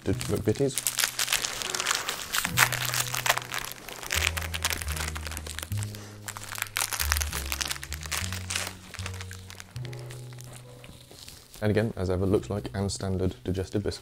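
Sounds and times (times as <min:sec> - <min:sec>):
plastic packet crinkling: 0:00.0 - 0:12.1.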